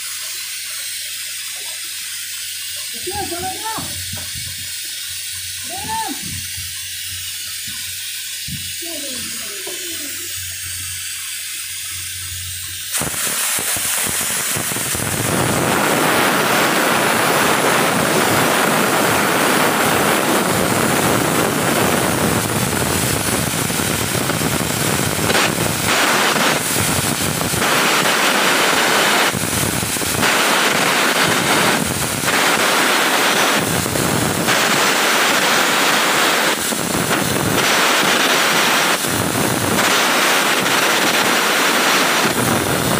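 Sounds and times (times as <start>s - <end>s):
welding arc crackling: 0.0s - 42.9s.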